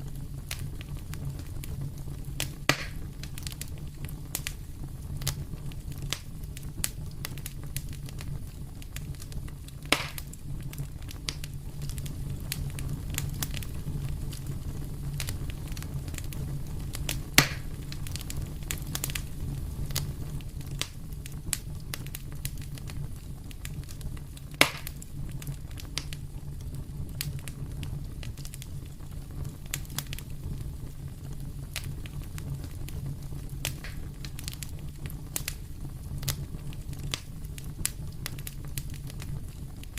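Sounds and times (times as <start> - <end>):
fireplace fire crackling: 0.0 - 39.9
loud fire pops: 0.0 - 39.9.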